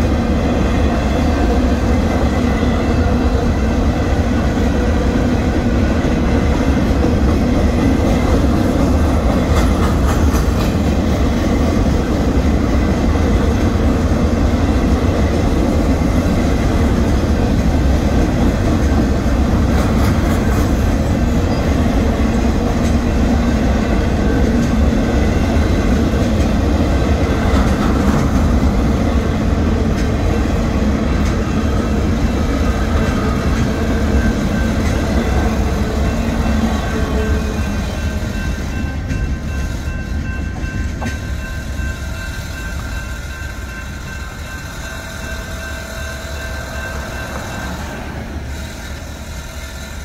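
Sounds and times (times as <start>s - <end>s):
freight train rolling past: 0.0s - 50.0s.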